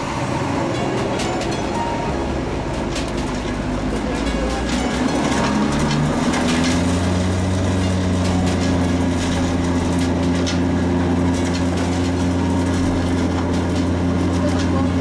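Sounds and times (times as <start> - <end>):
wood chipper engine drone: 0.0 - 15.0.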